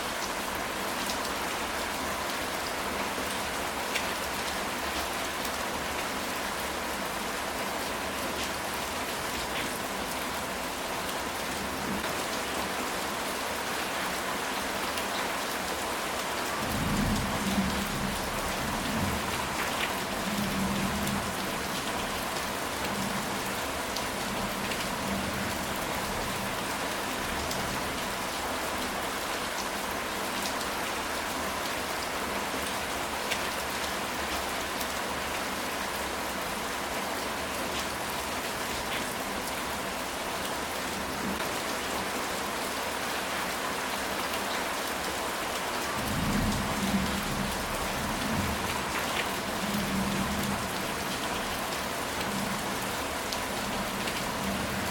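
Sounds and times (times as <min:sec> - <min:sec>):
rain on a tile roof: 0:00.0 - 0:54.9.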